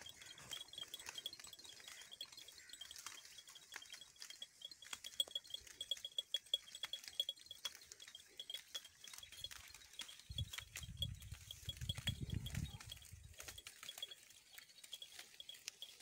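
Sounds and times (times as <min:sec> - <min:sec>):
goats chewing leaves: 0:00.0 - 0:16.0
high-pitched chirping: 0:00.0 - 0:16.0.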